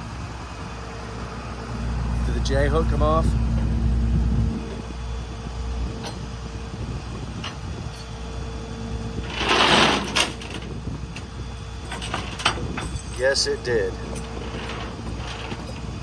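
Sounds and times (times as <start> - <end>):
faint steady whine: 0.0 - 16.0
tow truck engine rumble: 0.0 - 16.0.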